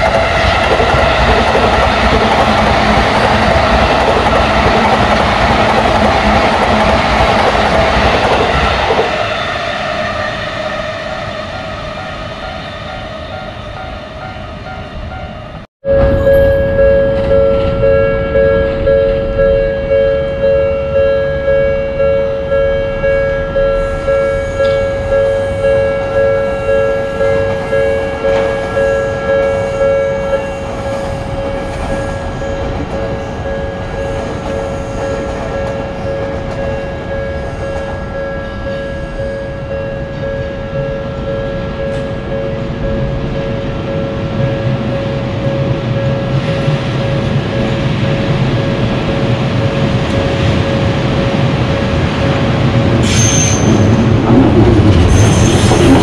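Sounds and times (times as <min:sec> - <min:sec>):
level-crossing warning bell: 0:00.0 - 0:54.2
train rumble: 0:00.0 - 0:56.0.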